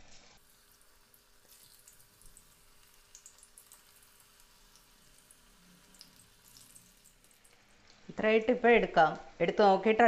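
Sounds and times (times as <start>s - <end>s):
deep-frying sizzle with crackles: 0.0s - 8.2s.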